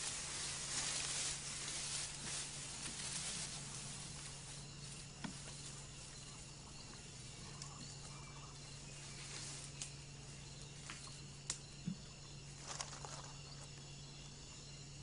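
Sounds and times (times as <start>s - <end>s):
insects hissing: 0.0s - 15.0s
low steady hum: 0.0s - 15.0s.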